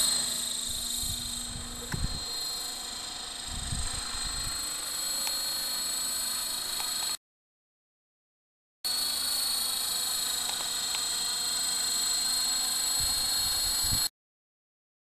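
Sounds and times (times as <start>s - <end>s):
helicopter rotor noise: 0.0s - 7.2s, 8.9s - 14.1s
rc helicopter motor whine: 0.0s - 7.2s, 8.9s - 14.1s.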